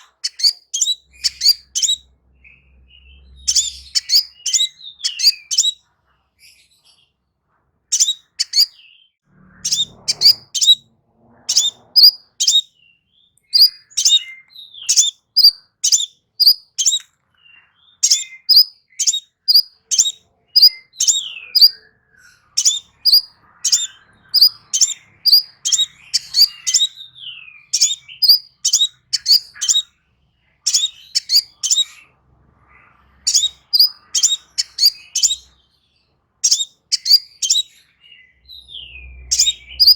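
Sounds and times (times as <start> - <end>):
songbird high chirps: 0.0 - 5.8, 7.9 - 10.8, 11.5 - 35.8, 36.4 - 39.9.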